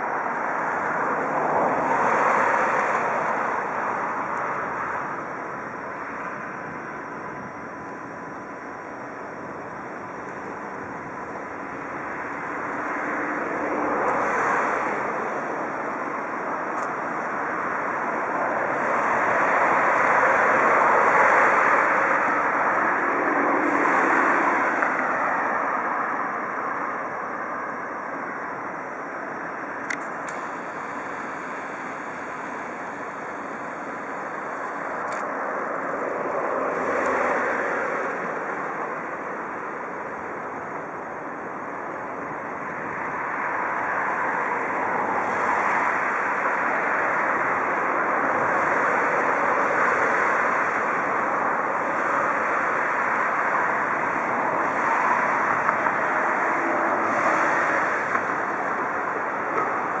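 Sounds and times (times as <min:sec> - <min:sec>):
rumble of passing vehicles: 0:00.0 - 1:00.0.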